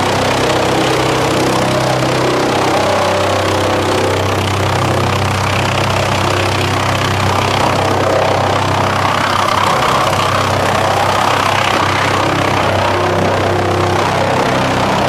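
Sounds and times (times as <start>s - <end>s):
drum chipper chipping wood: 0.0s - 15.0s.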